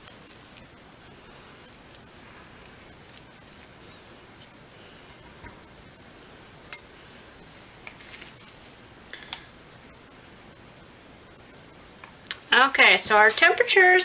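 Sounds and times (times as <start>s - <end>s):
low room hiss: 0.0s - 14.0s.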